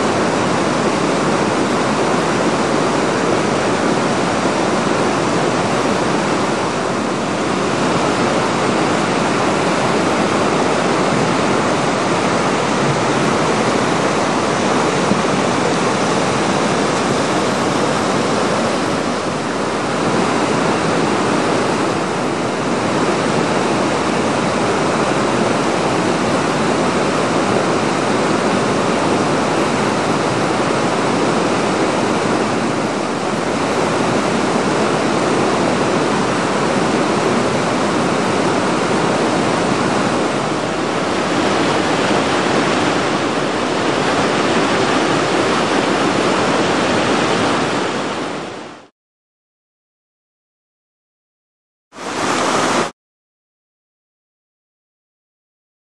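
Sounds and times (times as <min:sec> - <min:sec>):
river rapids rushing: 0:00.0 - 0:48.9, 0:52.0 - 0:52.9.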